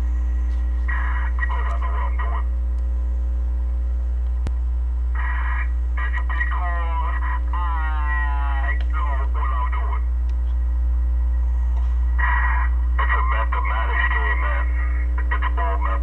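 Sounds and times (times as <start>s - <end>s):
crackly radio bursts: 0.0s - 3.0s, 4.3s - 16.0s
steady low hum: 0.0s - 16.0s.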